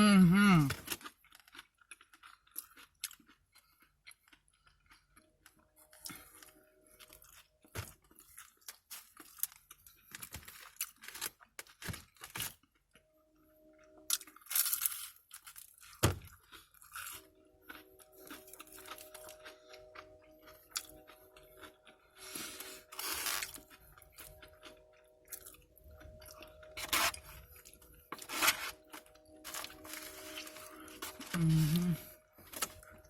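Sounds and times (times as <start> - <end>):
chewing and crunching food: 0.1 - 33.0.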